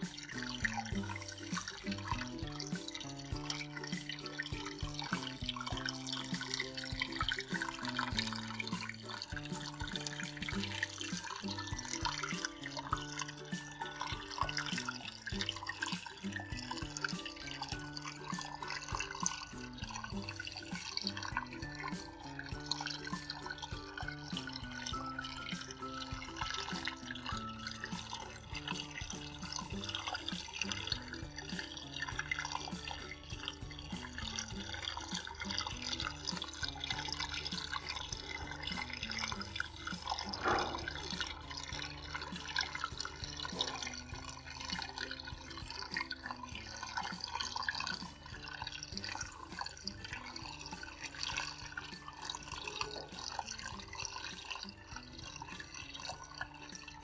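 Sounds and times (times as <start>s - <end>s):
background music: 0.0s - 57.0s
fountain water trickling and dripping: 0.0s - 57.0s.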